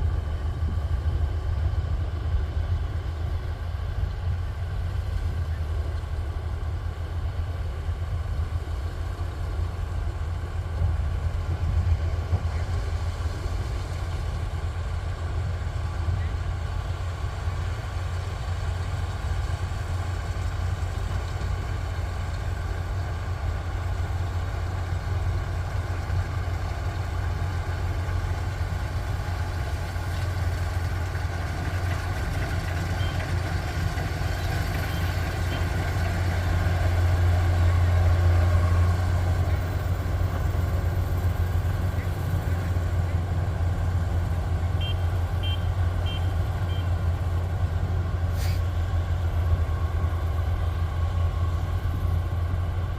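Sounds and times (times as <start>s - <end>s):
combine harvester drone: 0.0s - 52.9s.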